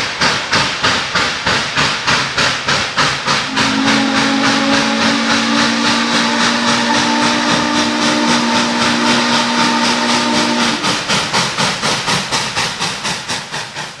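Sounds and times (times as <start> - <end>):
steam locomotive exhaust chuffing: 0.0 - 14.0.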